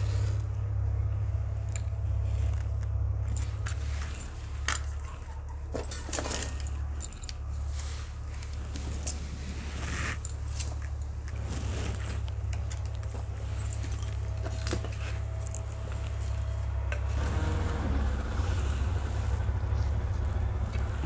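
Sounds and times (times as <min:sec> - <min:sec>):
low fire rumble: 0:00.0 - 0:21.0.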